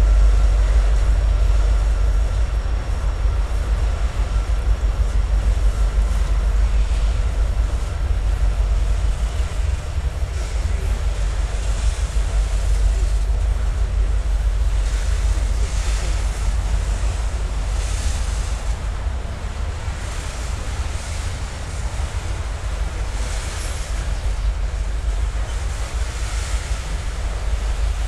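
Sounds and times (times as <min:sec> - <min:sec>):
freight train cars rolling over bridge: 0:00.0 - 0:28.0
wind buffeting microphone: 0:00.0 - 0:28.0.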